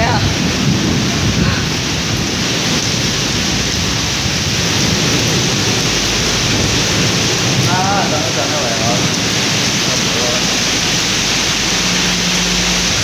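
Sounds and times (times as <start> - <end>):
heavy rain pouring: 0.0 - 13.0
low rumble: 0.0 - 13.0.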